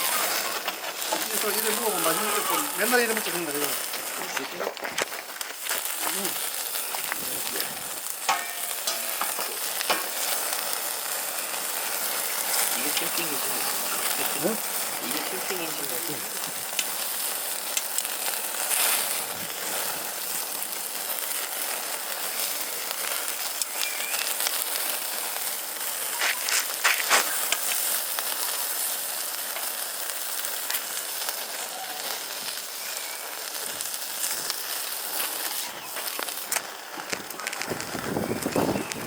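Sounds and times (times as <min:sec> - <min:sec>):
fire pops and crackles: 0:00.0 - 0:39.0
food sizzling over wood fire: 0:00.0 - 0:39.0.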